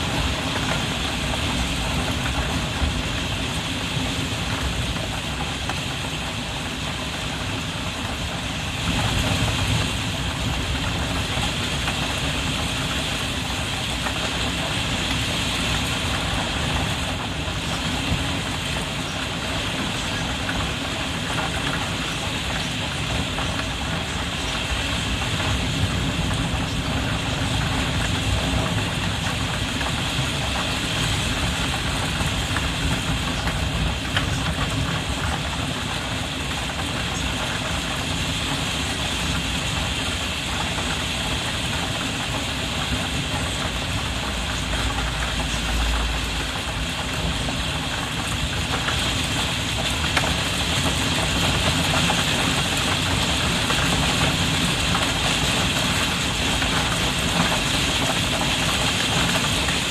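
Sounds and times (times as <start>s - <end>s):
constant low rumble: 0.0s - 59.9s
heavy rain drumming on skylight: 0.0s - 59.9s.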